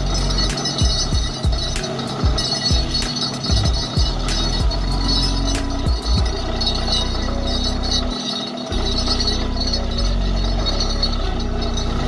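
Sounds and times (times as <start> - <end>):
drilling rig running: 0.0 - 12.0.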